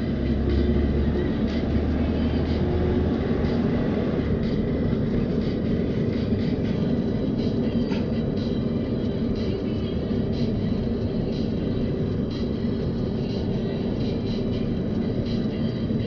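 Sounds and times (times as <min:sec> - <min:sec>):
car engine: 0:00.0 - 0:16.0.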